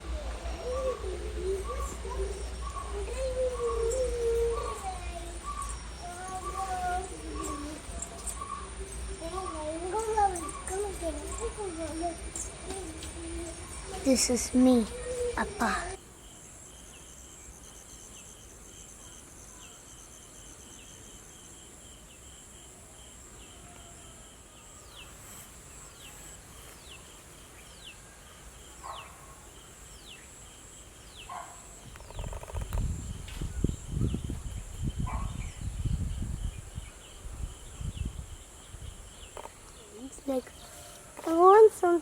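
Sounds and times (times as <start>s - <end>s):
insects shrill chirping: 0.0s - 42.0s.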